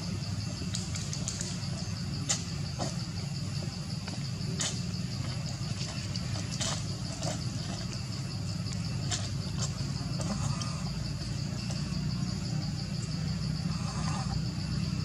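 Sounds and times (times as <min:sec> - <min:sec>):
insects trilling: 0:00.0 - 0:15.0
low steady rumble: 0:00.0 - 0:15.0.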